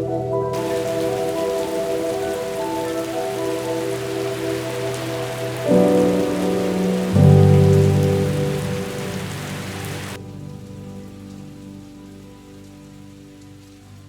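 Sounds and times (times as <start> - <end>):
low sustained music chord: 0.0 - 14.0
steady rain falling: 0.0 - 14.0.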